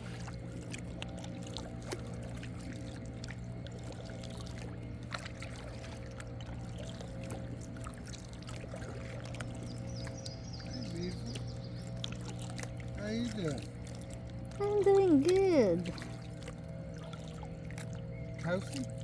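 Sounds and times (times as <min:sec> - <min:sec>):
paddle dripping and splashing: 0:00.0 - 0:19.0
steady low hum: 0:00.0 - 0:19.0.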